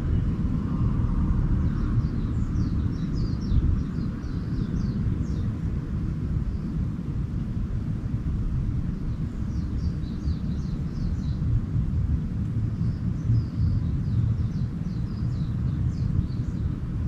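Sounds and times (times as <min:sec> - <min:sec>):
steady low rumble: 0:00.0 - 0:17.0
small birds twittering: 0:00.8 - 0:06.9, 0:08.8 - 0:17.0.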